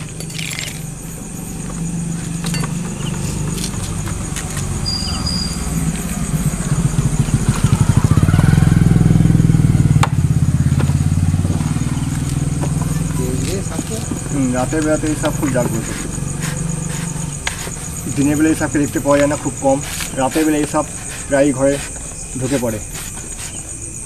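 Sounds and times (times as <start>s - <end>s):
small engine puttering: 0.0s - 24.0s.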